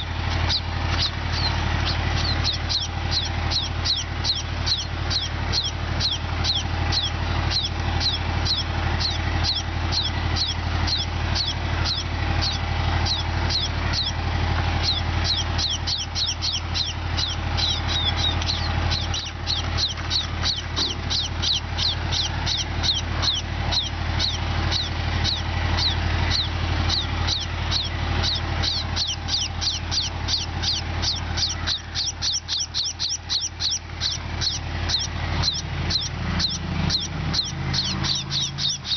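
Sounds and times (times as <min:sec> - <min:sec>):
low engine-like hum: 0:00.0 - 0:38.9
sparrows chirping: 0:00.0 - 0:38.9.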